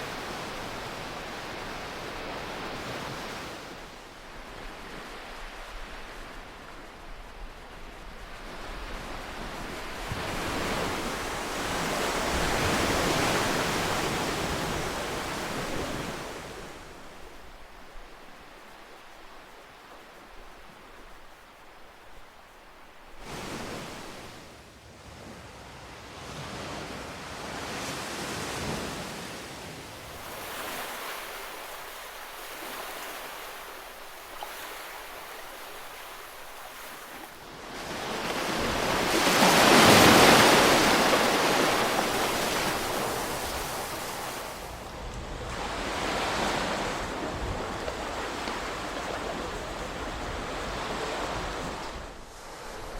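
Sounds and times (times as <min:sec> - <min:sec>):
ocean waves breaking: 0:00.0 - 0:24.5, 0:27.6 - 0:52.9.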